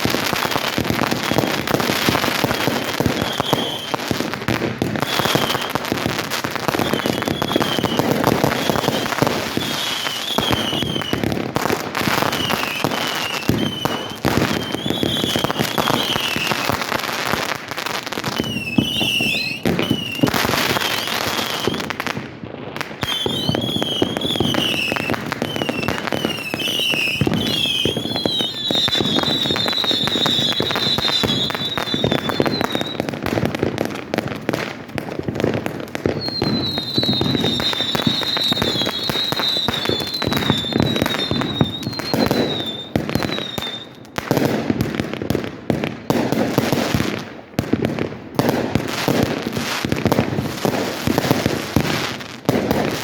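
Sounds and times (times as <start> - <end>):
fireworks crackling and popping: 0.0 - 53.0
fireworks whistling: 0.0 - 53.0.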